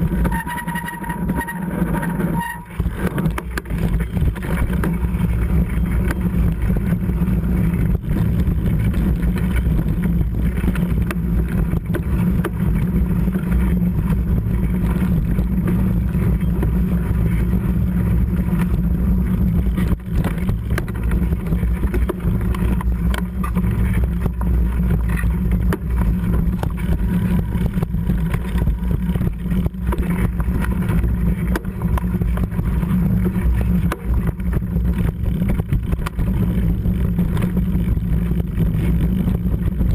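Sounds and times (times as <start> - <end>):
bike knocks and rattles: 0.0 - 39.9
tyres rumbling on trail: 0.0 - 39.9.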